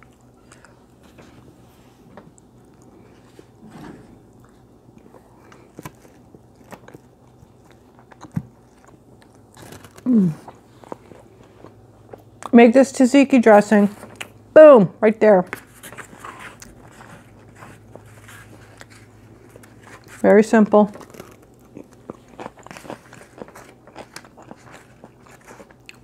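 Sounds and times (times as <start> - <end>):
person chewing food: 0.0 - 3.6, 4.2 - 12.5, 15.7 - 20.2, 20.9 - 26.0.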